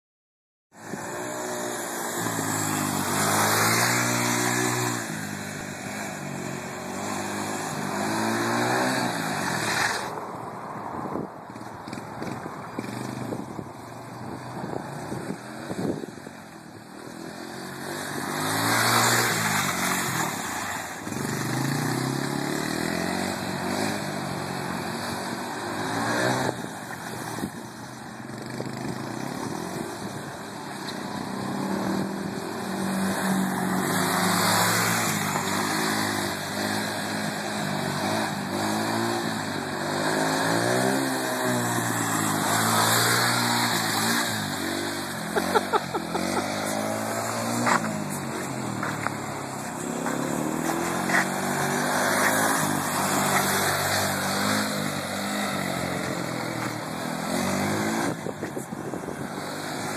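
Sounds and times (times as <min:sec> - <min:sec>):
atv engine revving: 0:00.8 - 0:10.1, 0:11.6 - 0:13.5, 0:17.0 - 0:59.9.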